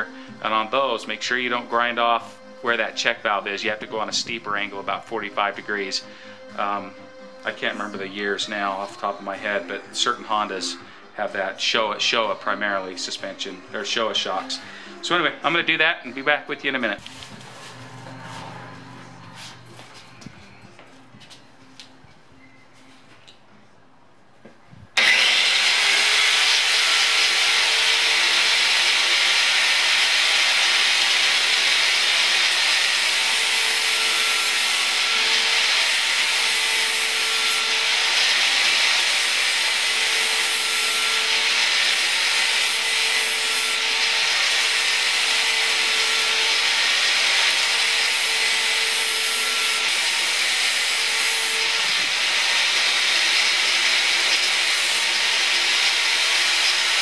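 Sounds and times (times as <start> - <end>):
angle grinder grinding metal: 0.0 - 20.3, 25.0 - 57.0.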